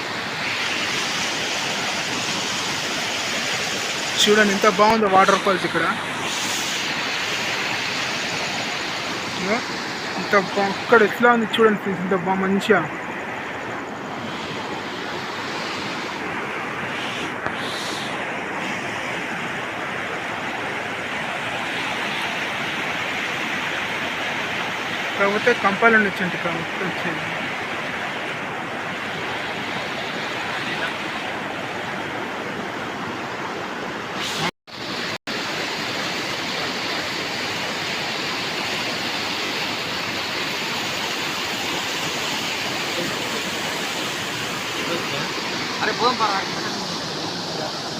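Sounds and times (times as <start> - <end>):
waterfall rushing over rocks: 0.0 - 47.9.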